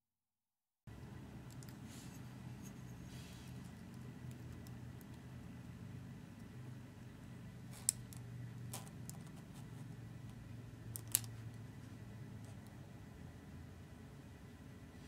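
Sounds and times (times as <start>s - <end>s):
faint low hum: 0.9s - 15.0s.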